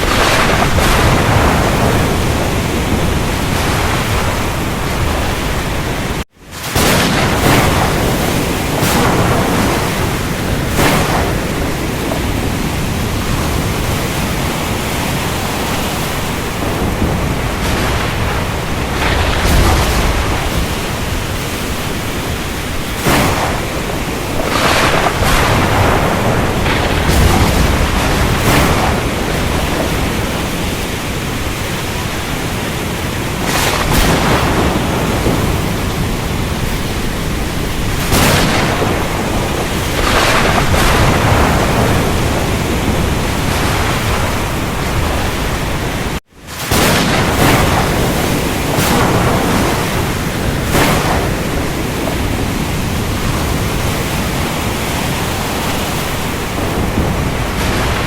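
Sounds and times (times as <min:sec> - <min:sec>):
wave breaking: 0:00.0 - 0:58.0
wind and waves roaring: 0:00.0 - 0:58.0.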